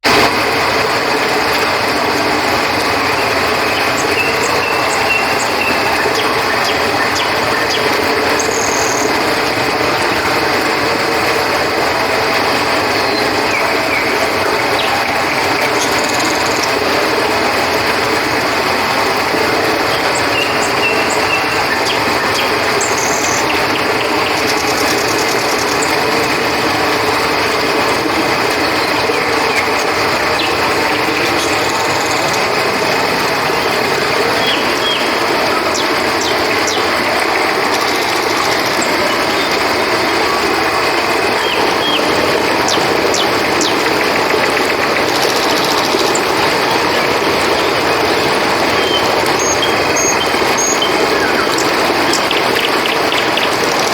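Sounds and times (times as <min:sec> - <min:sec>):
river water flowing: 0:00.0 - 0:53.9.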